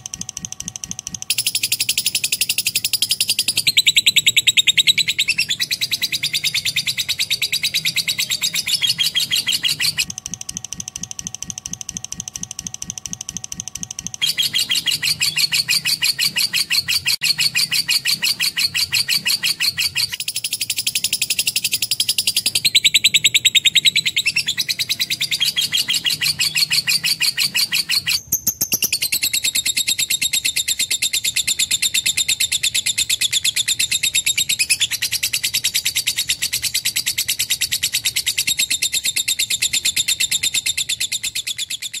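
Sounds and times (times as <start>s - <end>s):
lovebird chattering song: 0.4s - 42.0s.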